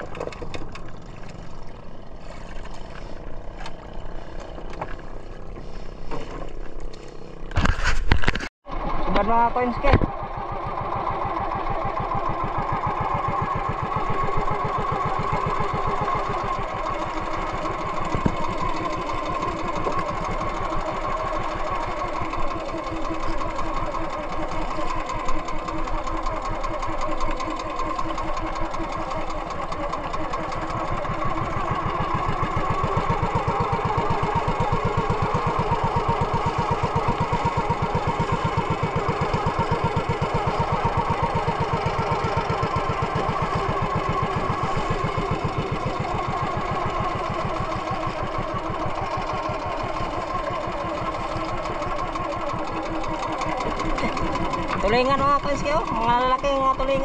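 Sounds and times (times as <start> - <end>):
small boat engine running: 0.0 - 57.0
water splashing along hull: 0.0 - 57.0.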